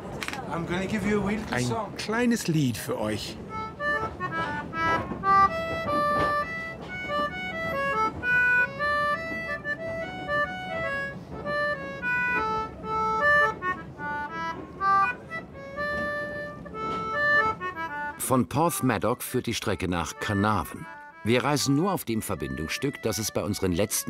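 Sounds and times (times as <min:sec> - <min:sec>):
concertina playing lively tune: 0:03.4 - 0:24.0.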